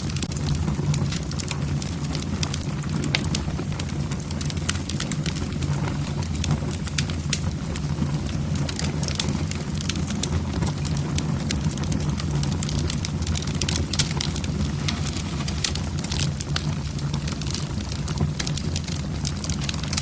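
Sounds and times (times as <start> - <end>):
logs crackling in a fireplace: 0.0 - 20.0.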